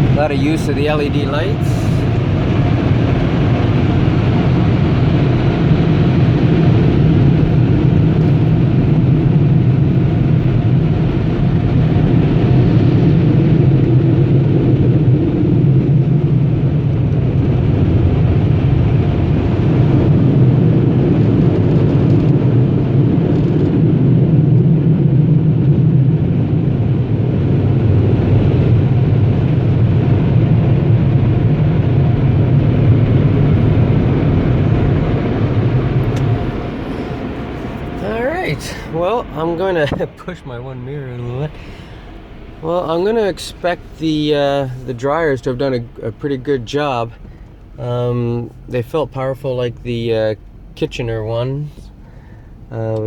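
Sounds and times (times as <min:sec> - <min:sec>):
car wash air dryers blowing: 0:00.0 - 0:53.0.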